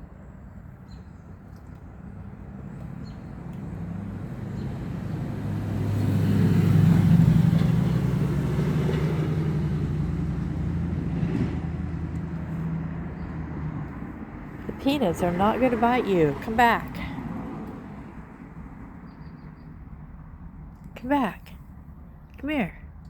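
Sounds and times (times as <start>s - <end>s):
vehicle passing by: 1.6s - 20.7s.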